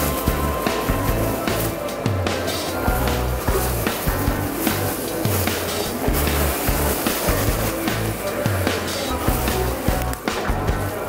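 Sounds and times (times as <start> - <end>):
music with bass and beat: 0.0 - 11.0.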